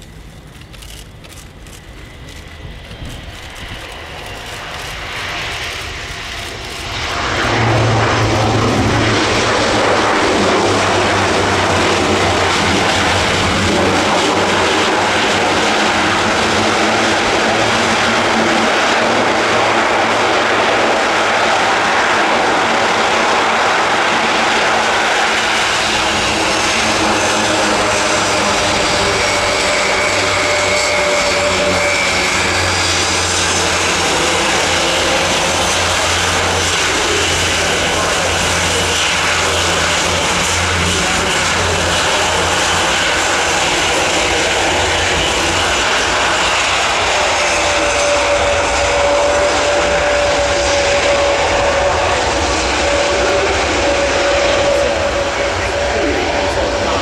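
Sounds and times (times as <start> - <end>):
turboprop engines roaring: 0.0 - 57.0.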